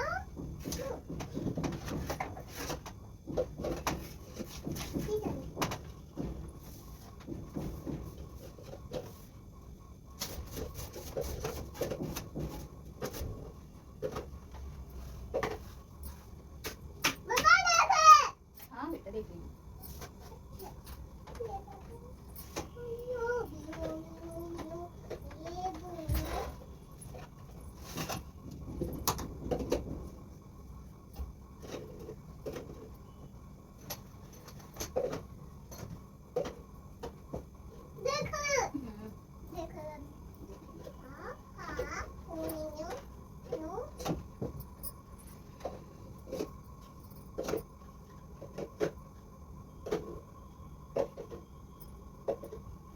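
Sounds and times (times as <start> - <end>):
objects knocking and clattering: 0.0 - 9.3, 10.2 - 17.7, 19.8 - 30.4, 31.0 - 38.6, 41.6 - 52.8.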